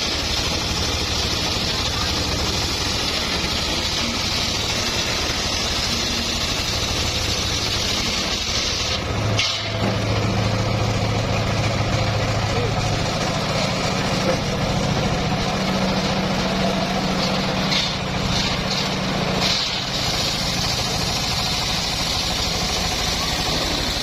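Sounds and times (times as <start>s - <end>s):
sawmill engine running: 0.0s - 24.0s.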